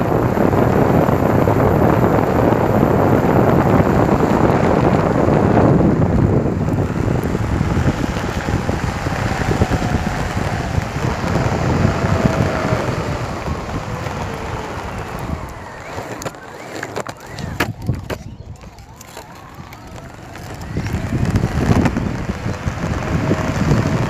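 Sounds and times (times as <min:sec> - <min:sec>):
electric skateboard rolling: 0:00.0 - 0:24.0
faint motor whine: 0:00.0 - 0:24.0
wind buffeting microphone: 0:00.0 - 0:24.0.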